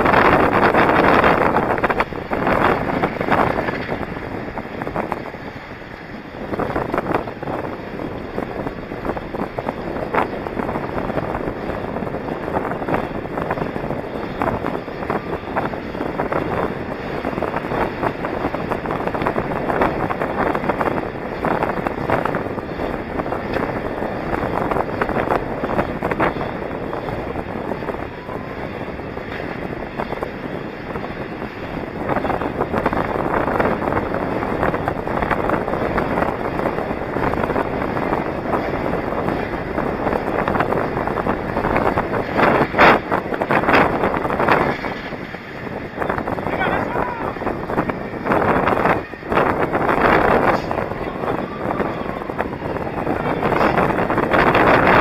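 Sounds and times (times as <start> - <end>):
skate wheels rolling on asphalt: 0.0 - 55.0
wind rushing over microphone: 0.0 - 55.0.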